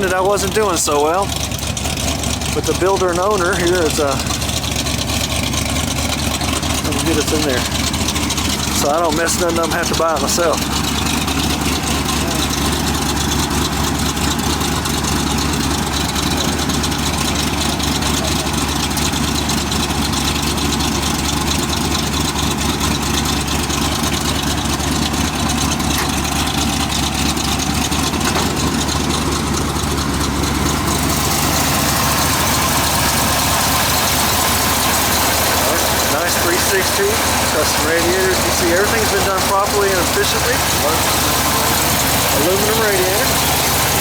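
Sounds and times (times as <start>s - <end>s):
vee eight engine idling: 0.0s - 44.0s.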